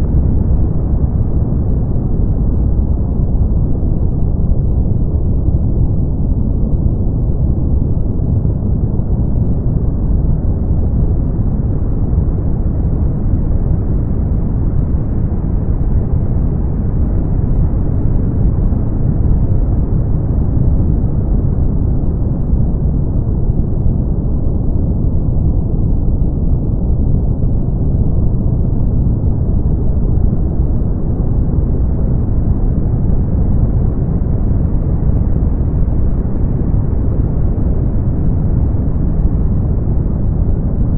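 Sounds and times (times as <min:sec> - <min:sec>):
brown noise rumbling hiss: 0:00.0 - 0:40.9.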